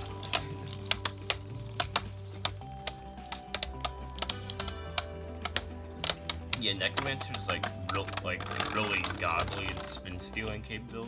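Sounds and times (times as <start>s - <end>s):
spinning tops clacking: 0.0s - 10.7s
background music: 0.0s - 11.0s.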